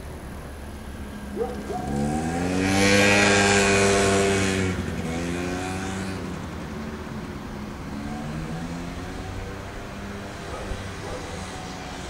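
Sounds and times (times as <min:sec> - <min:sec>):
vehicle engine passing: 0:00.8 - 0:12.0.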